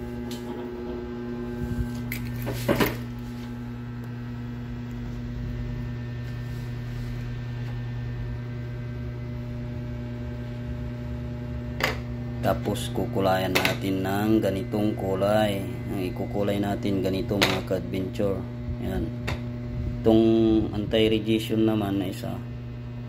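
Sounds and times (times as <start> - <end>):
machine electrical hum: 0.0 - 23.0.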